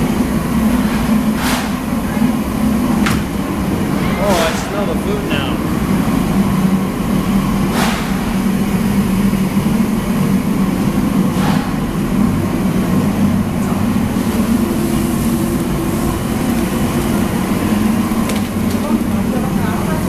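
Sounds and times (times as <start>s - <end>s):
kitchen machinery droning: 0.0s - 20.0s.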